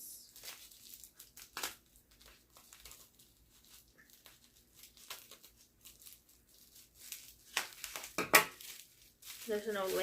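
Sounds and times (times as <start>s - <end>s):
packaging crinkling: 0.3s - 10.0s.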